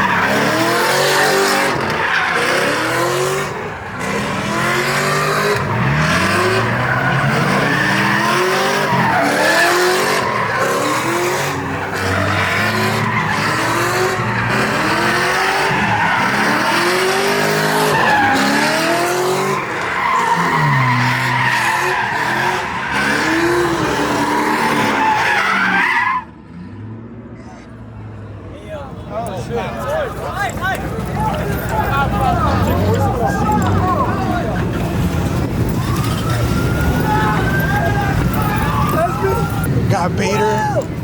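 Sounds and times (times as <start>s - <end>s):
car engine revving: 0.0s - 41.0s
tires squealing: 0.0s - 41.0s.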